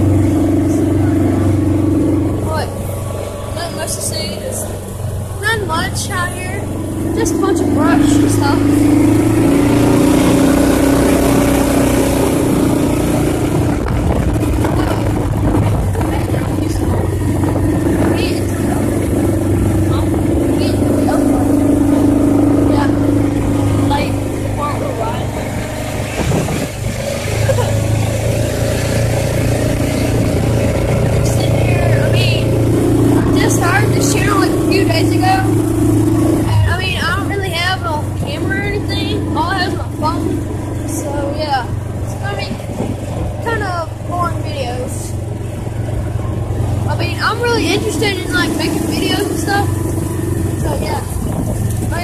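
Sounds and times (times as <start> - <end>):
utility vehicle engine running: 0.0 - 52.0.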